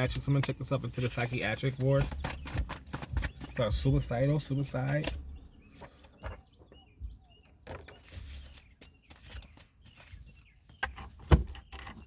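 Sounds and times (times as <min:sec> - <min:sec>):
faint bird chirps: 0:02.1 - 0:12.0.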